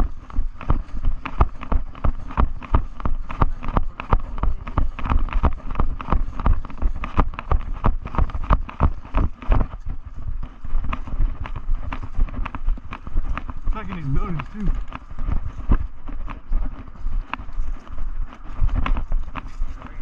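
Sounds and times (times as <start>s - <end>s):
running footsteps: 0.0s - 20.0s.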